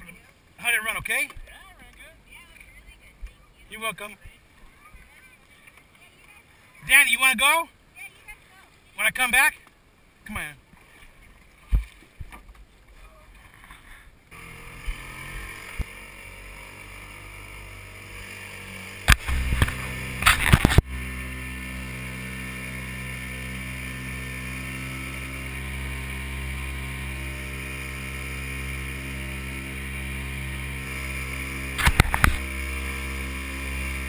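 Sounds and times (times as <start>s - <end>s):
outboard motor running: 0.0s - 9.7s, 10.6s - 34.0s.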